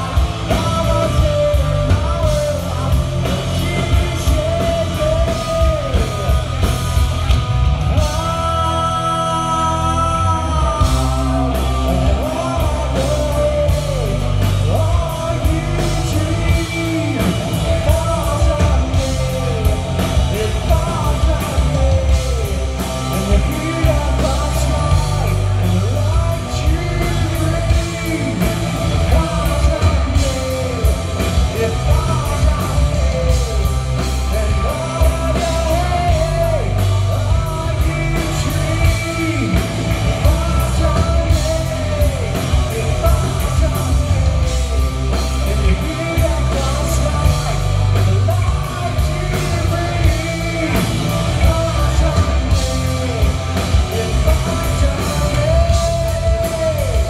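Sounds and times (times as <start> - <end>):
live rock band: 0.0 - 57.0
man singing lead vocal: 0.0 - 57.0.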